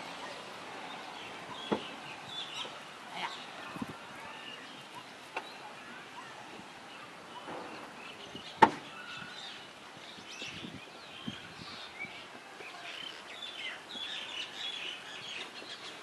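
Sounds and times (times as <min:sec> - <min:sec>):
birds chirping and calling: 0:00.1 - 0:16.0.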